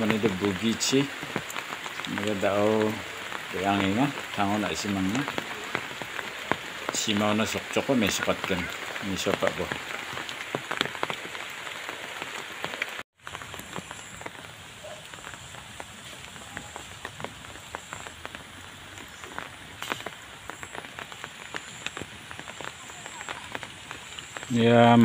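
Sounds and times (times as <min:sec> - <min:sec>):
rain pattering on leaves: 0:00.0 - 0:25.0.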